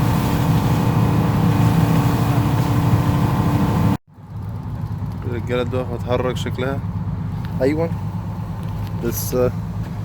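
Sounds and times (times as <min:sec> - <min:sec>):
boat engine droning: 0:00.0 - 0:10.0
quiet engine hum: 0:00.0 - 0:10.0.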